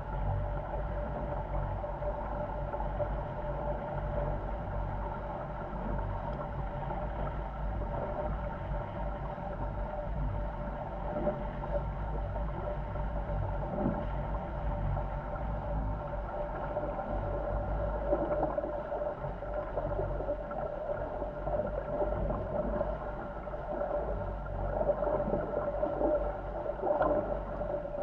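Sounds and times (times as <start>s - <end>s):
constant hum: 0.0s - 28.0s.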